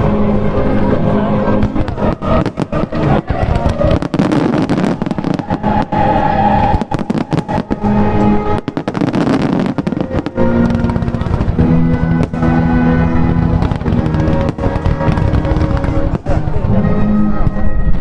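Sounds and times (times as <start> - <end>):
fireworks banging and crackling: 0.0 - 18.0
music with held notes: 0.0 - 18.0.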